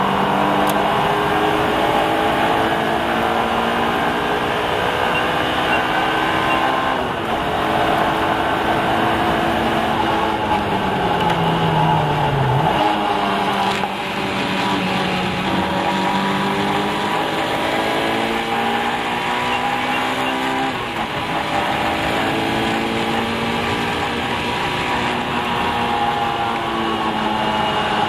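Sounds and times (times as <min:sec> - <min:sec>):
car engine pulling hard: 0:00.0 - 0:28.0
road and wind noise: 0:00.0 - 0:28.0.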